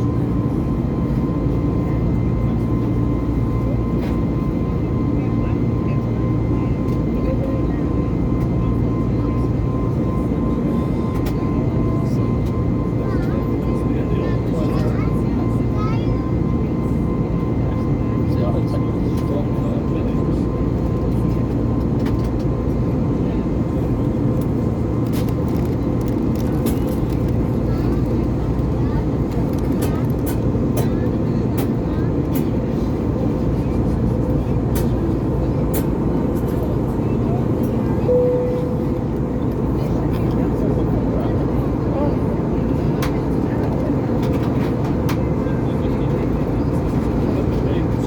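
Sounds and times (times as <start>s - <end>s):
jet engine high whine: 0.0s - 48.0s
jet engine low rumble: 0.0s - 48.0s.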